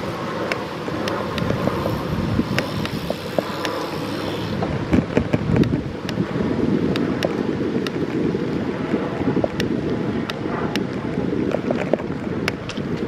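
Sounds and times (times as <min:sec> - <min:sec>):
bicycle rolling on pavement: 0:00.0 - 0:13.0
wind buffeting microphone: 0:00.0 - 0:13.0.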